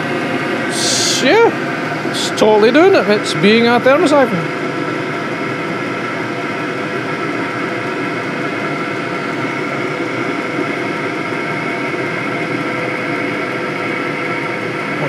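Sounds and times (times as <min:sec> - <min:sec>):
diesel heater running: 0:00.0 - 0:15.0.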